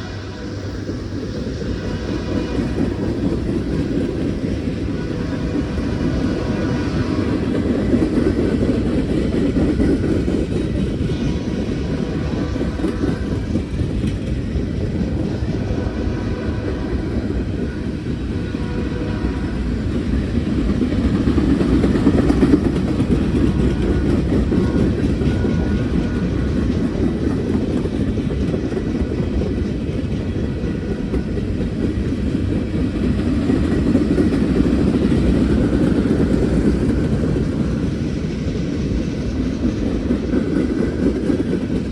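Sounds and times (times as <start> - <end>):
freight train rumbling past: 0.0 - 41.9.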